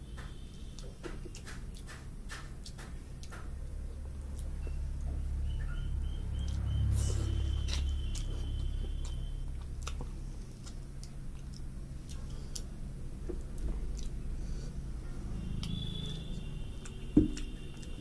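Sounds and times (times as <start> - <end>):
person chewing food: 0.1 - 18.0.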